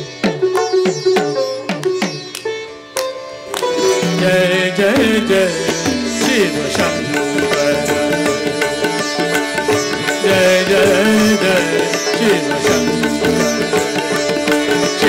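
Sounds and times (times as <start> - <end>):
sitar playing: 0.0 - 15.0
tabla: 0.0 - 15.0.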